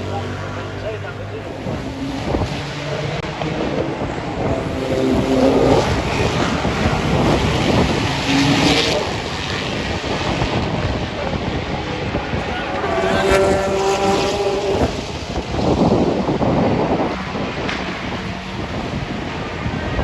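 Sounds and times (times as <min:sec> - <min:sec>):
race car engine passing: 0:00.0 - 0:20.0.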